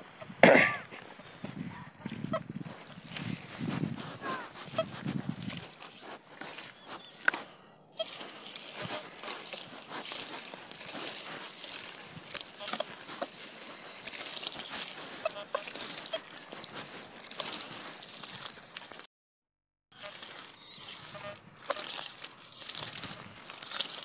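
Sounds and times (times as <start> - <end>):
straw stubble crackling underfoot: 0.0 - 19.1, 19.9 - 24.0.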